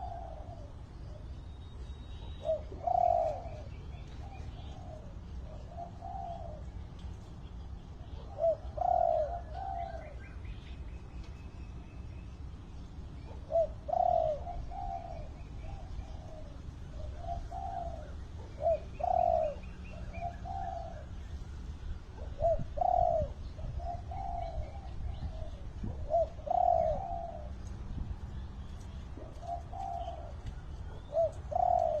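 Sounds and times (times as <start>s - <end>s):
dove cooing: 0.0s - 10.4s, 13.0s - 32.0s
small birds chirping: 0.0s - 32.0s.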